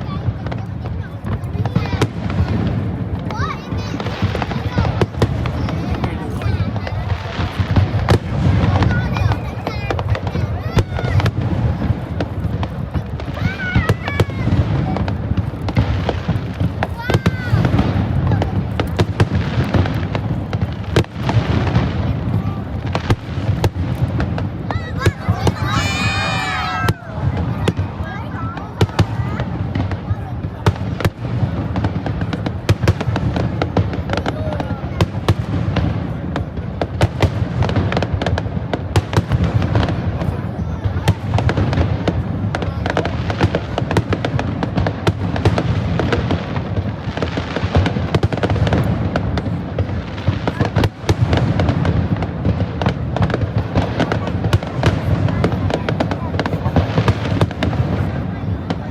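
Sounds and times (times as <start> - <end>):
firework bangs and cracks: 0.0 - 58.9.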